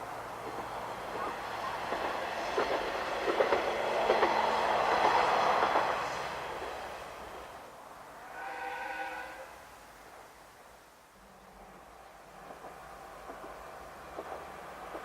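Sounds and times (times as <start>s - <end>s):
diesel railcar passing: 0.0s - 15.0s.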